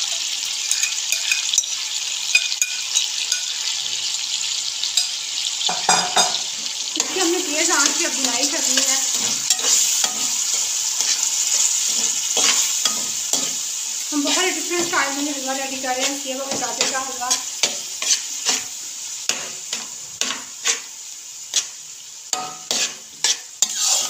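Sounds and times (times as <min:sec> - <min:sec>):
food sizzling in hot fat: 0:00.0 - 0:24.0
metal spatula stirring and scraping: 0:00.7 - 0:03.6, 0:07.0 - 0:24.0.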